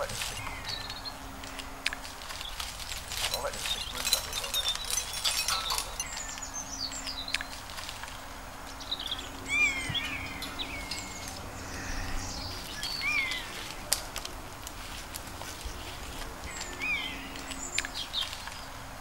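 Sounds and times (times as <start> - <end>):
birds chirping: 0.0 - 7.7, 8.6 - 13.9, 15.4 - 18.8.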